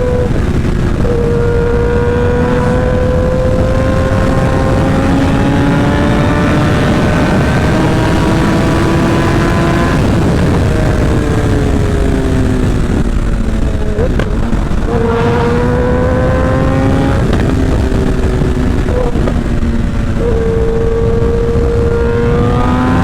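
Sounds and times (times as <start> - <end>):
motorcycle engine revving: 0.0 - 23.0
wind rush over microphone: 0.0 - 23.0.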